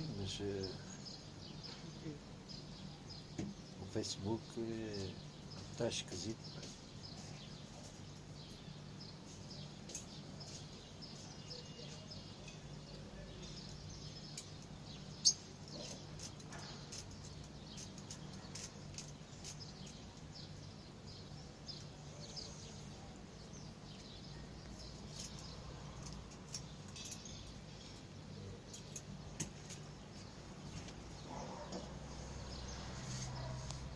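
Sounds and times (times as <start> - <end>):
bird chirps: 0.0 - 33.9.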